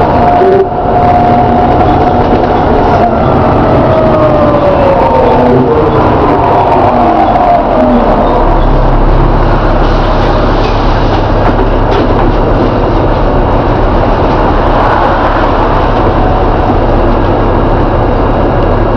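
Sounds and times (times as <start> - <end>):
bus engine drone: 0.0 - 18.9
road rumble: 0.0 - 18.9.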